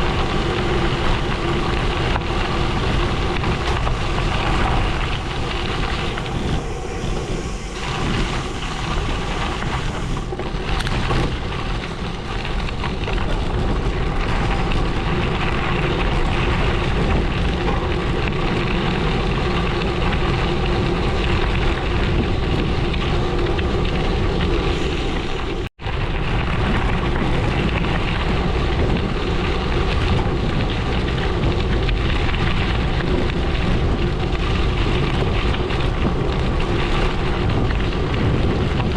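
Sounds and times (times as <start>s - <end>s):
bike tyres crunching on gravel: 0.0s - 38.9s
wind rushing over microphone: 0.0s - 38.9s.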